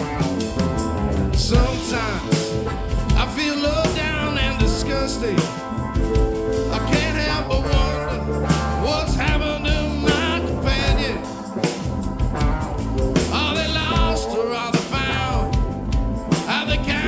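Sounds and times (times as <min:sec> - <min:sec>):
bending lead guitar line: 0:00.0 - 0:17.0
drum hits: 0:00.0 - 0:17.0
live rock band playing: 0:00.0 - 0:17.0.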